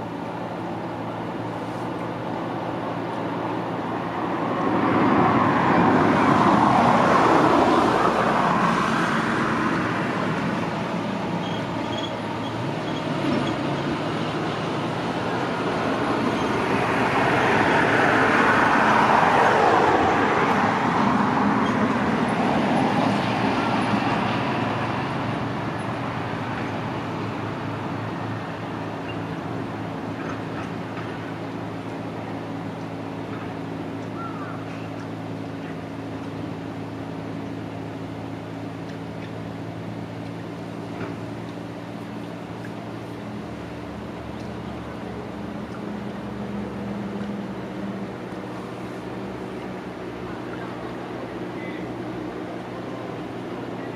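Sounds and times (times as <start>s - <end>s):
vehicles passing close by: 0.0s - 53.9s.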